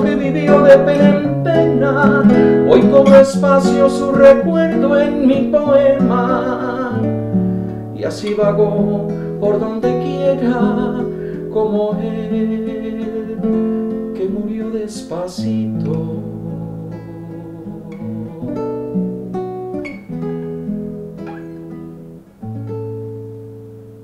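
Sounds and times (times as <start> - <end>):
acoustic guitar ballad: 0.0 - 24.0.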